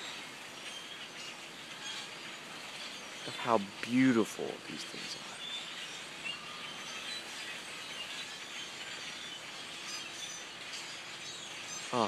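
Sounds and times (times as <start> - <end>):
flock of small birds chirping: 0.0 - 12.0
steady background hiss: 0.0 - 12.0.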